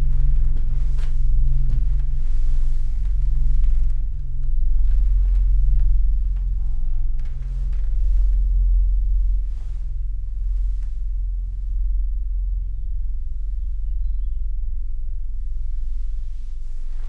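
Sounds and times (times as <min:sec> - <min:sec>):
low sustained drone: 0:00.0 - 0:17.0.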